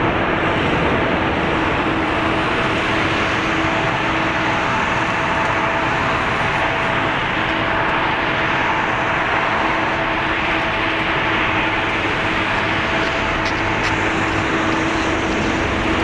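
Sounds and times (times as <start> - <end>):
faint steady hums: 0.0 - 16.0
jet engines rushing: 0.0 - 16.0.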